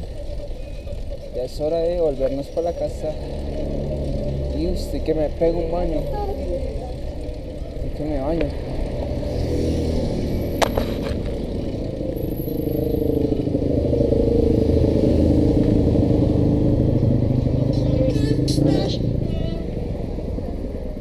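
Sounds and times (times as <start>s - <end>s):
traffic engines running: 0.0s - 21.0s.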